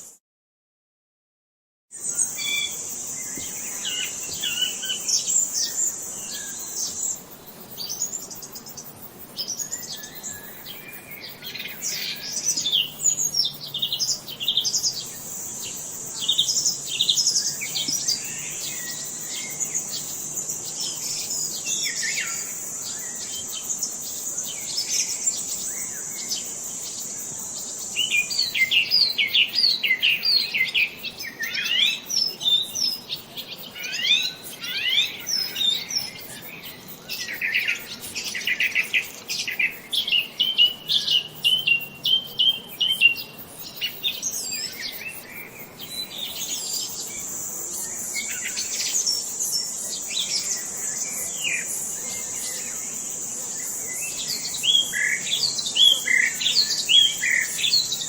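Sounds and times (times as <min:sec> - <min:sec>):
wild birds chirping: 0:02.0 - 0:58.0.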